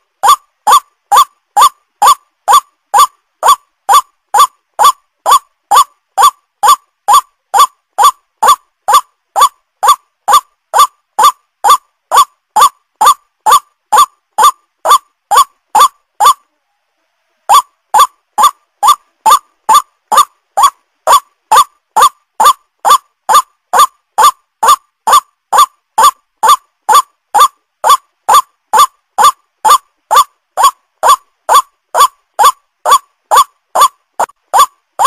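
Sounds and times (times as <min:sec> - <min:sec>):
waterhen calling: 0:00.2 - 0:16.4, 0:17.5 - 0:35.0.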